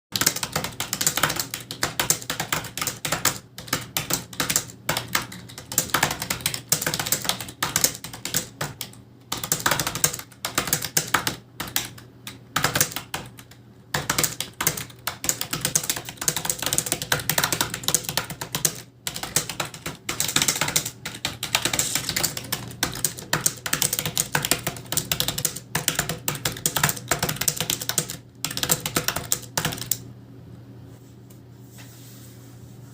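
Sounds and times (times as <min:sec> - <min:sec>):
fast typing on computer keyboard: 0:00.1 - 0:30.1.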